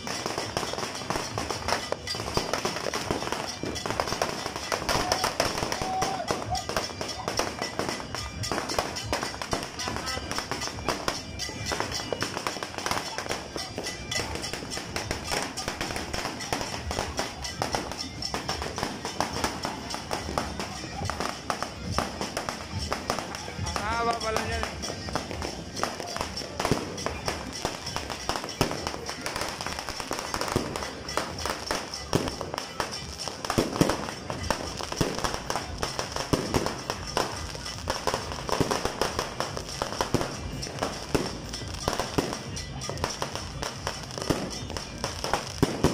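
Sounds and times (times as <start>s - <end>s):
fireworks popping and cracking: 0.0s - 45.9s.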